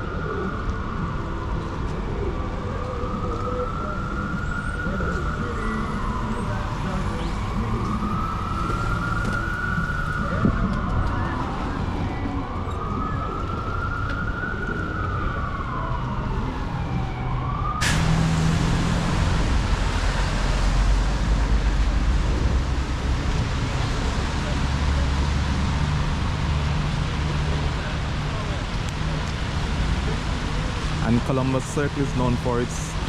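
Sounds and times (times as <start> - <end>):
emergency siren wailing: 0.0 - 33.0
street noise: 0.0 - 33.0.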